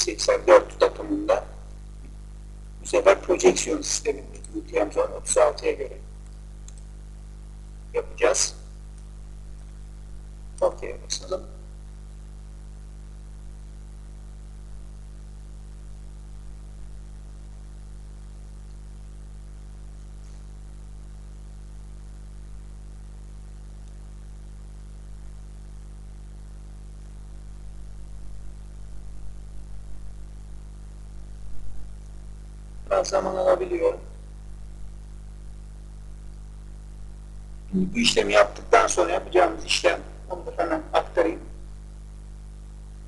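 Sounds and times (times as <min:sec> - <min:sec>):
electrical hum with hiss: 0:00.0 - 0:43.0.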